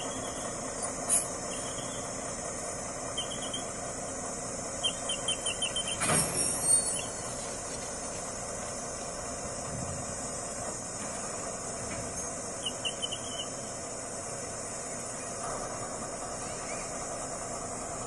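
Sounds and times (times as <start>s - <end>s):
locomotive engine running: 0.0s - 18.0s.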